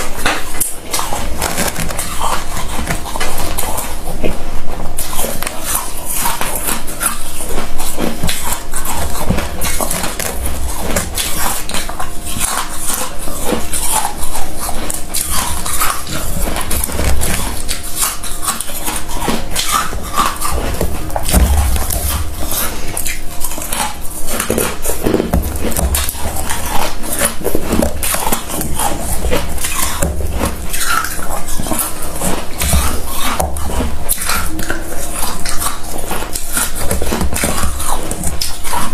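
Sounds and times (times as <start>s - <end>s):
frost crunched between teeth: 0.1s - 38.9s.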